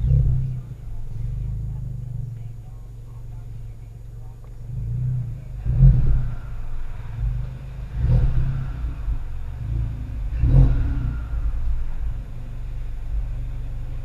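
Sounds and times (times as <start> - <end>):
car engine idling: 0.0 - 14.0
car exhaust revving: 0.0 - 14.0
exhaust pop: 0.0 - 14.0.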